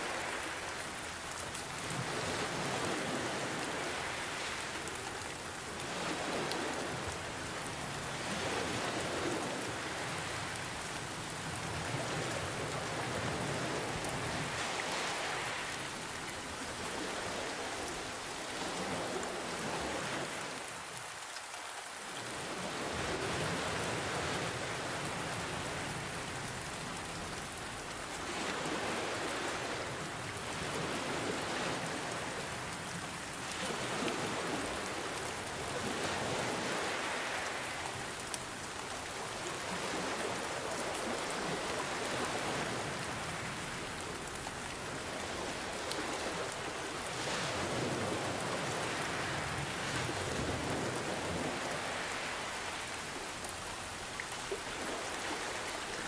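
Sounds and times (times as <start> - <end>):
ocean waves: 0.0 - 56.0
steady rain hiss: 0.0 - 56.0.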